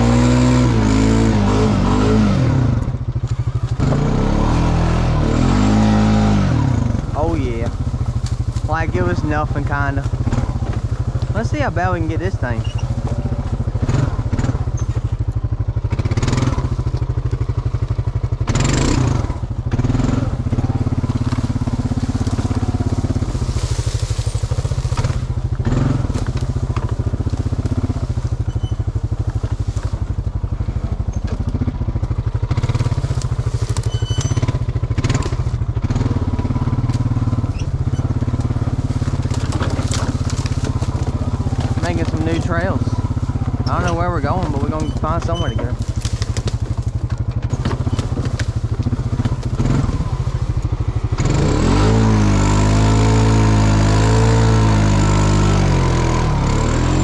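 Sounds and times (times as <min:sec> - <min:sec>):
atv engine under load: 0:00.0 - 0:57.0
branches scraping against vehicle: 0:00.0 - 0:57.0.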